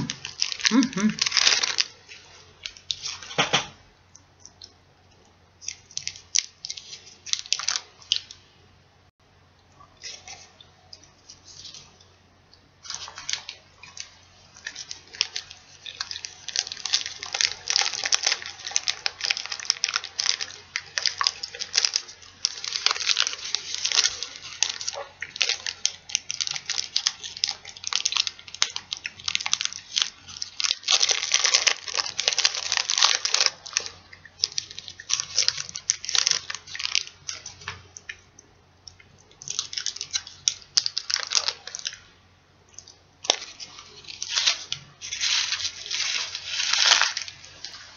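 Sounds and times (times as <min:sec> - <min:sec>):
candy wrapper crinkling: 0:00.0 - 0:03.8, 0:05.6 - 0:08.4, 0:12.8 - 0:42.1, 0:42.7 - 0:47.9.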